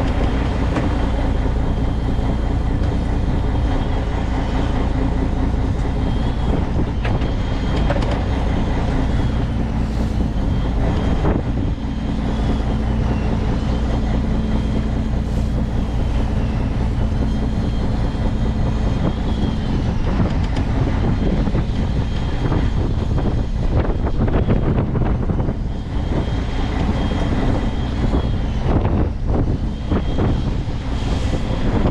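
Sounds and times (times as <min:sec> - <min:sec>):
boat engine rumbling: 0:00.0 - 0:31.9
high wavering whine: 0:00.0 - 0:31.9.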